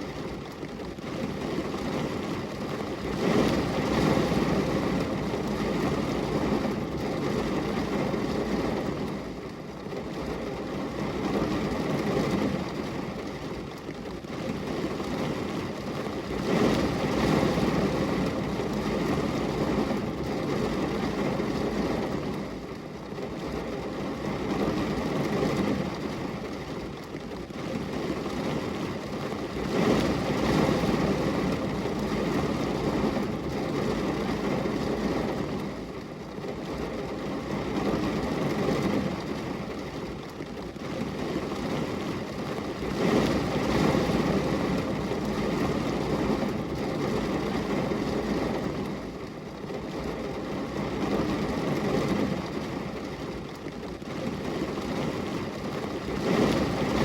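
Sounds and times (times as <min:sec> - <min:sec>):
rain pattering on glass: 0:00.0 - 0:57.0.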